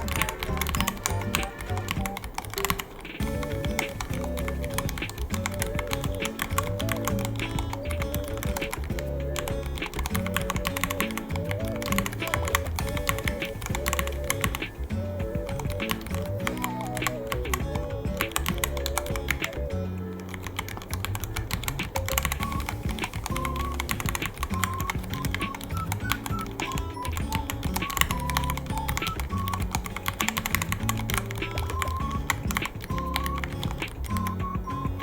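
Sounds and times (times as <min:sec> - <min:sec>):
mechanical keyboard typing: 0:00.0 - 0:34.7
background music: 0:00.0 - 0:35.0.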